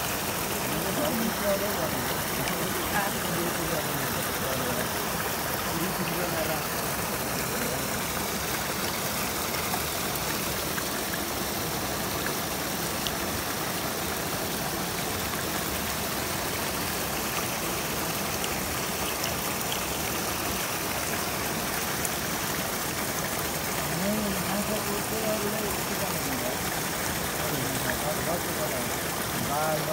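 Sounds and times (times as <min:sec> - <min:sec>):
stream running over rocks: 0:00.0 - 0:29.9.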